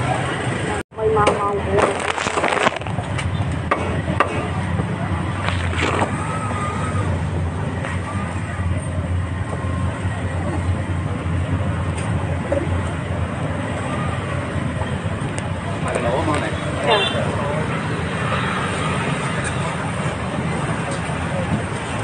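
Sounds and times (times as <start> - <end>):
faint voices: 0.0 - 22.0
low rumble of traffic: 0.0 - 22.0.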